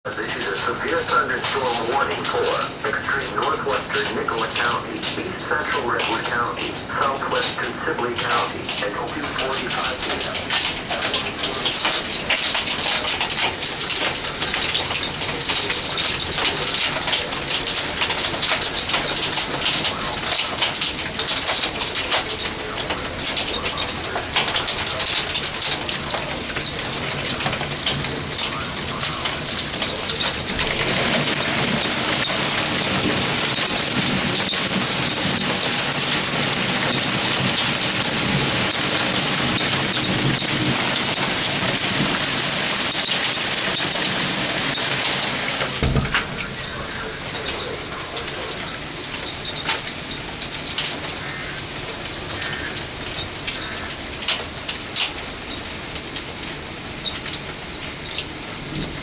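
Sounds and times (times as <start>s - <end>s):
hail and rain pelting: 0.0s - 59.0s.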